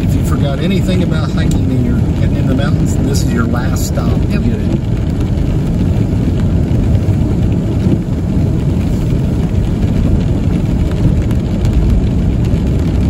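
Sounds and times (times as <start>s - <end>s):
rain on a car: 0.0s - 13.0s
tyres and engine rumble: 0.0s - 13.0s.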